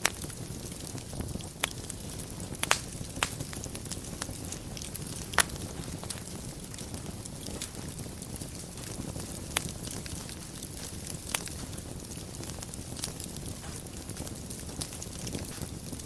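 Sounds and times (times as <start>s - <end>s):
fire crackling pops: 0.0s - 16.0s
fire rumbling in fireplace: 0.0s - 16.0s.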